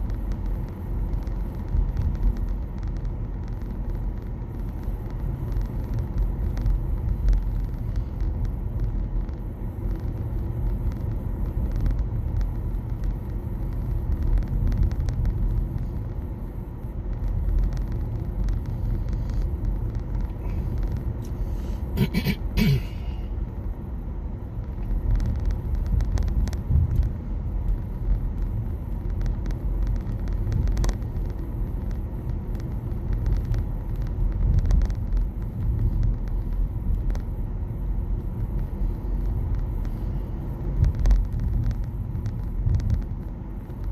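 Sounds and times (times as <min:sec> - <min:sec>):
road and tyre noise in car: 0:00.0 - 0:43.9.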